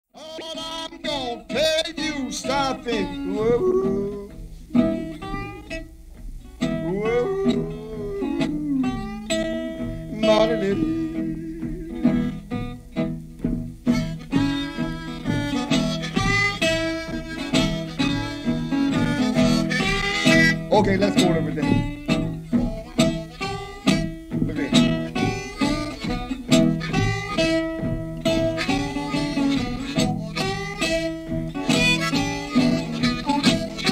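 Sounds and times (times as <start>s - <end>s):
bottleneck slide guitar: 0.2s - 33.9s
harmonica: 0.2s - 33.9s.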